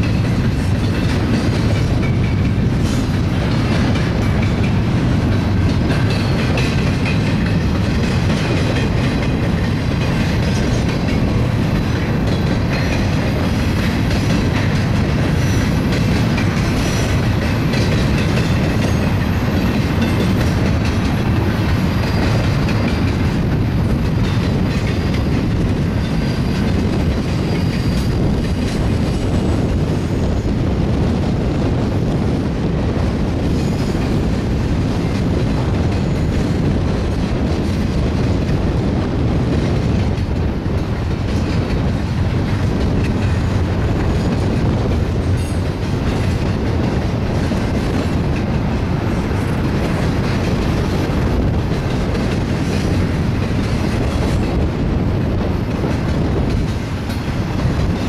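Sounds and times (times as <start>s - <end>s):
wheels clacking over rail joints: 0.0s - 30.6s, 33.4s - 58.0s
train wheels rumbling on rails: 0.0s - 58.0s.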